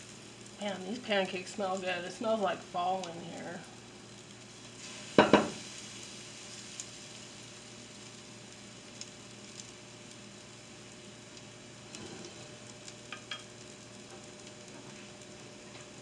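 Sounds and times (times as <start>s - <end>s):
batter sizzling in oil: 0.0s - 16.0s.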